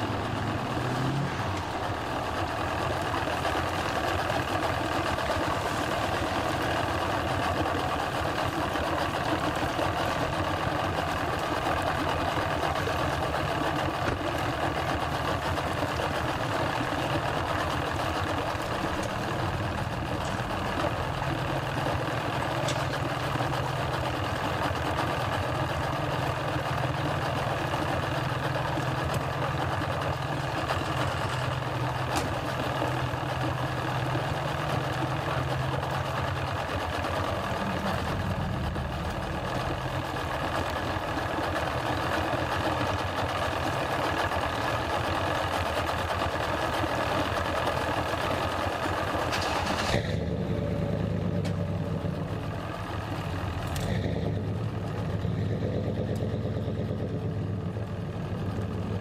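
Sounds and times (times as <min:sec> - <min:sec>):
outboard motor idling: 0:00.0 - 0:59.0.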